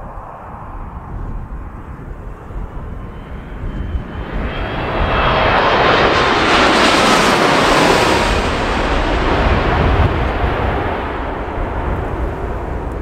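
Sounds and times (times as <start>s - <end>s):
faint jet engine whine: 0.0s - 13.0s
jet plane passing overhead: 0.0s - 13.0s.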